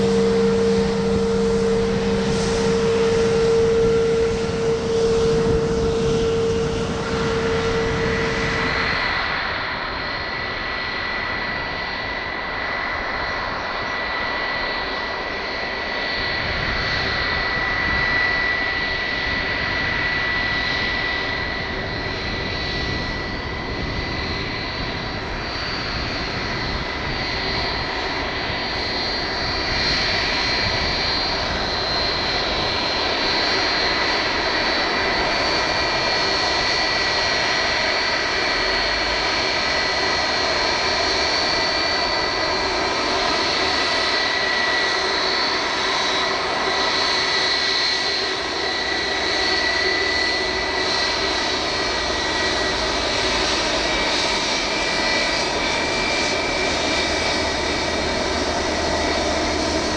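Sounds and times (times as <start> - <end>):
jet engines idling: 0.0 - 59.9.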